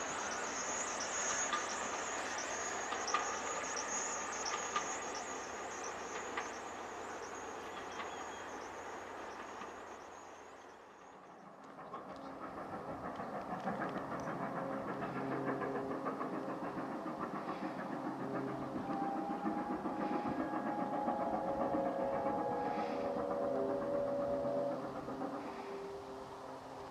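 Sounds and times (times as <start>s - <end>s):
steam locomotive exhaust beats: 0.0s - 26.9s.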